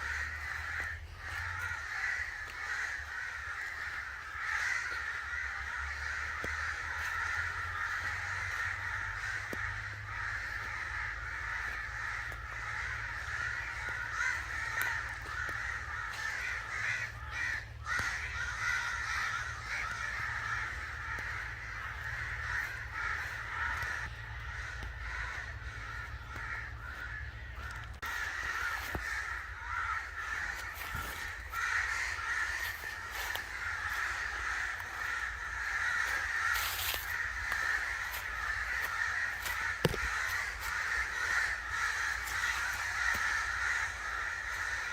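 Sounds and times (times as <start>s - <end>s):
crows cawing: 0.0s - 44.9s.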